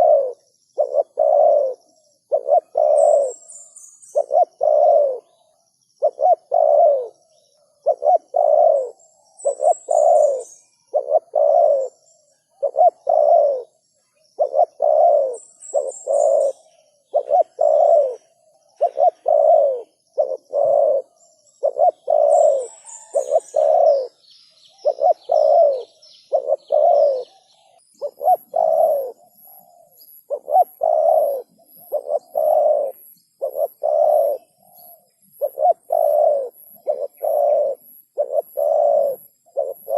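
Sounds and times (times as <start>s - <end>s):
dove cooing: 0.0s - 13.8s, 14.4s - 39.9s
small bird chirping: 0.0s - 39.9s.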